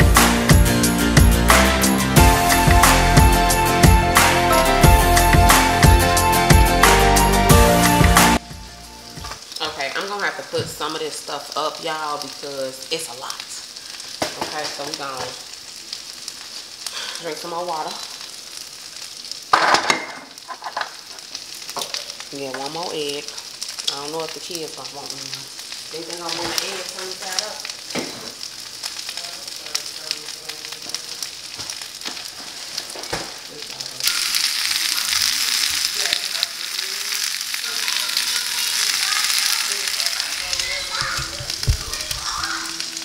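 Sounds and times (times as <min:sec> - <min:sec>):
egg sizzling in a pan: 0:08.4 - 0:43.0.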